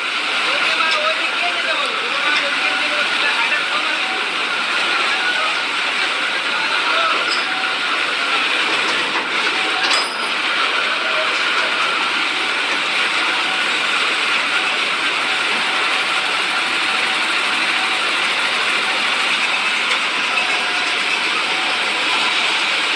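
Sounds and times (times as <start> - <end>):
truck engine and road noise: 0.0 - 22.9.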